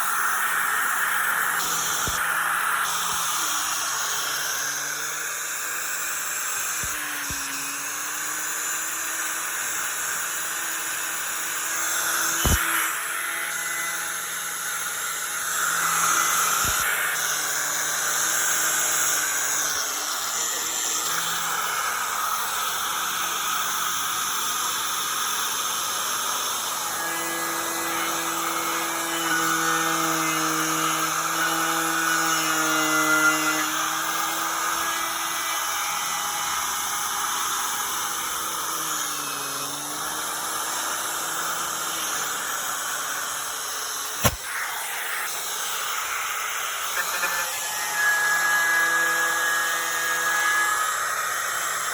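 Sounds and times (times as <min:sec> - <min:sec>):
angle grinder with wire wheel: 0:00.0 - 0:51.9.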